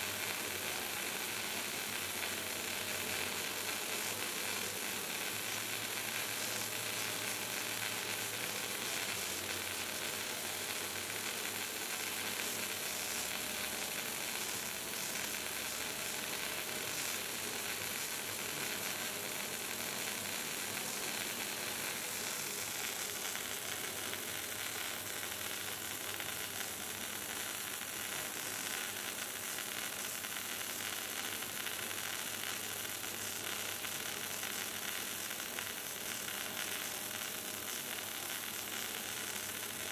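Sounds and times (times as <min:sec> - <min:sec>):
welding arc sizzling: 0:00.0 - 0:39.9.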